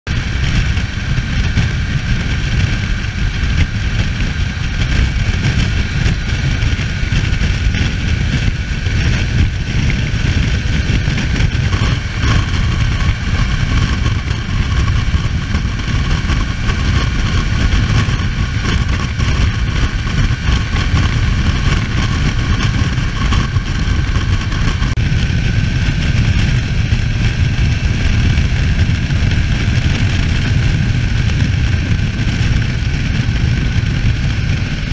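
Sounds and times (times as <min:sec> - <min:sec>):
motorcycle engine drone: 0:00.0 - 0:34.9
wind rumble on microphone: 0:00.1 - 0:34.9.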